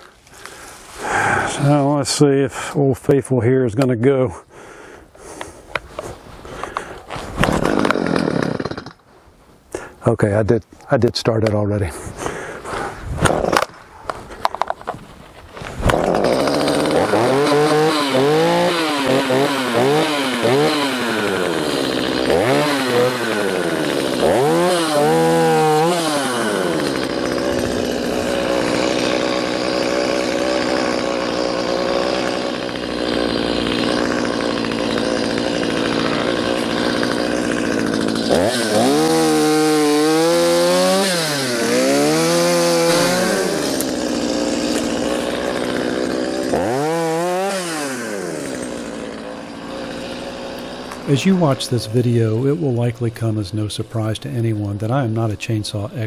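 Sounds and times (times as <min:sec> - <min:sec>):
chainsaw revving: 0:00.0 - 0:02.0, 0:06.5 - 0:09.0, 0:12.2 - 0:14.8, 0:15.6 - 0:56.0.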